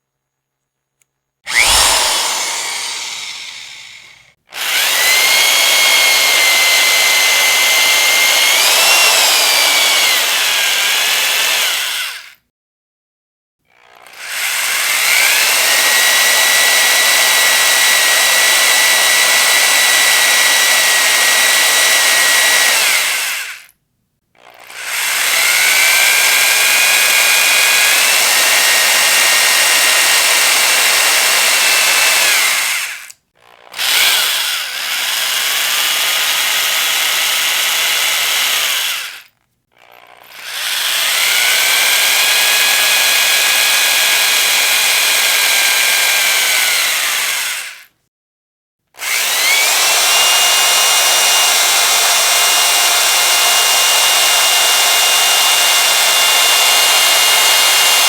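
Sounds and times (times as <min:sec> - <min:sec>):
electric drill whining: 0:01.5 - 0:12.4, 0:13.9 - 0:23.7, 0:24.4 - 0:47.9, 0:49.0 - 0:58.0.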